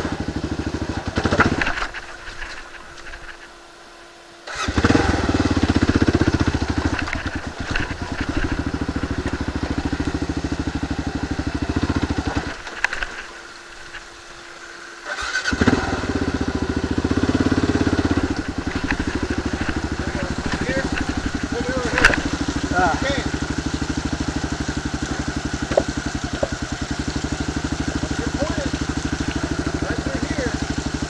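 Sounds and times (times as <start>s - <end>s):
motorcycle engine revving: 0.0s - 3.6s, 4.4s - 31.0s.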